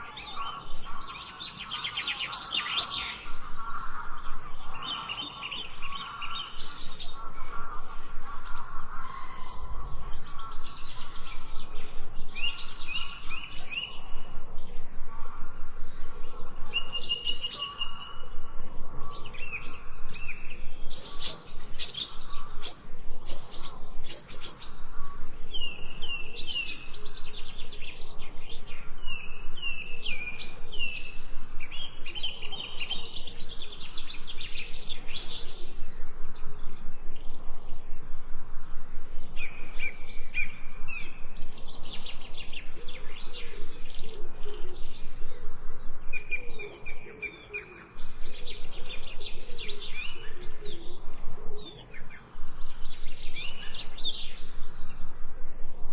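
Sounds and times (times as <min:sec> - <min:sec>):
lower bird calls: 0:00.0 - 0:55.9
songbirds chirping and singing: 0:00.0 - 0:55.9.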